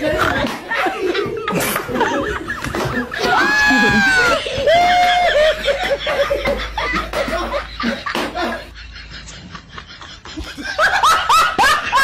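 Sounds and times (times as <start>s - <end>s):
hearty laughter: 0.0s - 12.0s.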